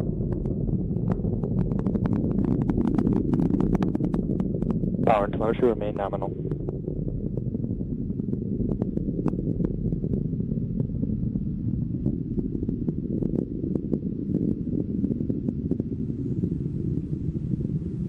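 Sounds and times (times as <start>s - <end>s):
rocket engines rumbling and crackling: 0.0s - 18.0s.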